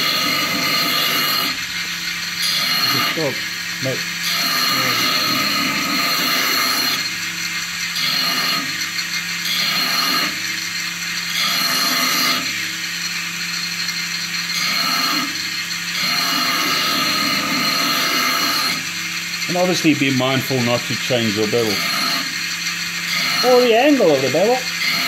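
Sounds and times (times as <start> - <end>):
belt grinder humming: 0.0 - 25.0
blade hissing on grinding belt: 0.0 - 25.0.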